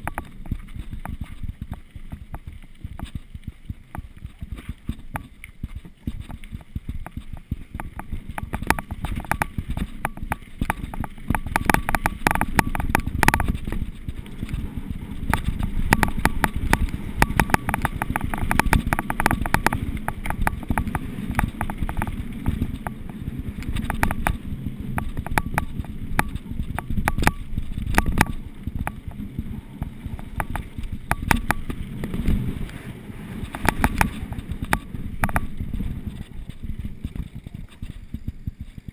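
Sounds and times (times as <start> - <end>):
bike clicks and rattles: 0.0 - 38.9
bike tyres rumbling over ground: 0.0 - 38.9.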